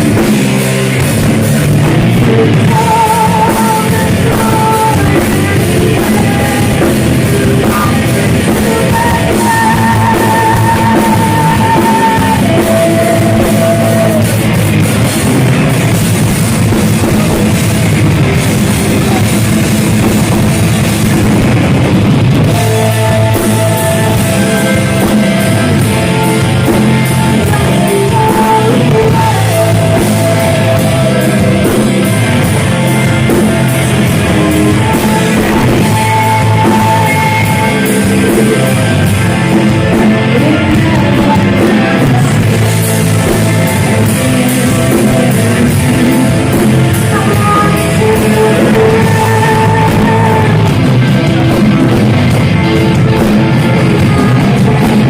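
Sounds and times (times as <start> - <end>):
heavy metal band playing: 0.0 - 55.0.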